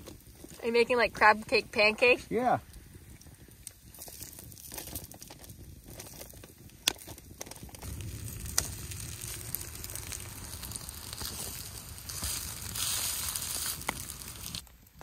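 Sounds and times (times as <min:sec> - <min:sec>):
campfire crackling: 0:00.0 - 0:15.0
food sizzling on foil: 0:00.0 - 0:15.0
sharp pops: 0:02.7 - 0:15.0.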